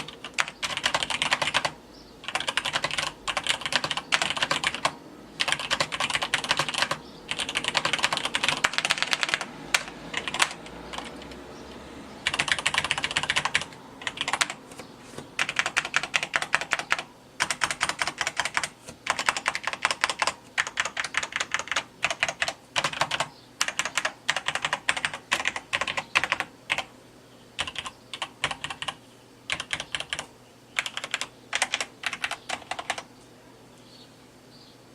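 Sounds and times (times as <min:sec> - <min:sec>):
mechanical keyboard typing: 0:00.0 - 0:14.8, 0:15.4 - 0:26.9, 0:27.6 - 0:33.1.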